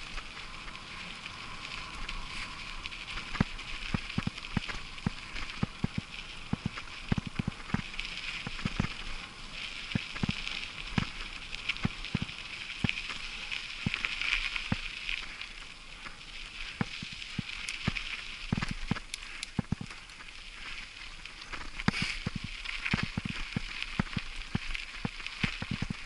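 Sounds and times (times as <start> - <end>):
bicycle tyres crunching on gravel: 0.0 - 26.0
bike rattling over stones: 0.0 - 26.0.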